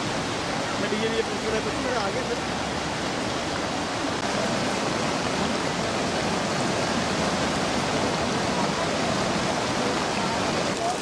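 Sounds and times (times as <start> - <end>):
stream roaring over weir: 0.0 - 11.0.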